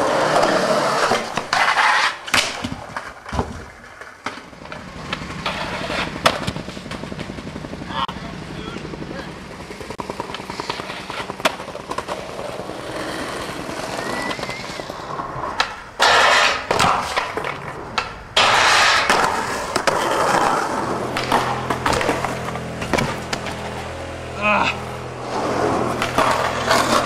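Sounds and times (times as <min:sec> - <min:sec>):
skateboard clacking and popping: 0:00.0 - 0:07.5, 0:10.1 - 0:23.7, 0:25.9 - 0:27.0
skateboard wheels rolling: 0:00.0 - 0:27.0.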